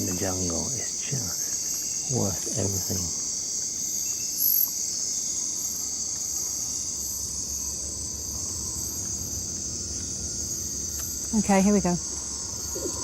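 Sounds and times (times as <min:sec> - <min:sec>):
crickets trilling: 0:00.0 - 0:13.0
higher cricket chirp: 0:00.0 - 0:13.0.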